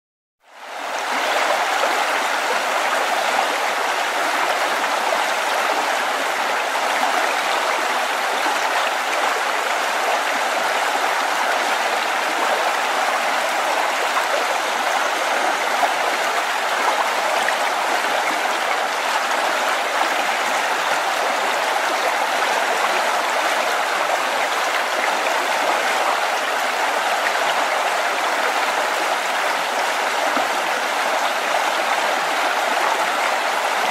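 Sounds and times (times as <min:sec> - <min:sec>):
stream flowing over rocks: 0:00.5 - 0:33.9.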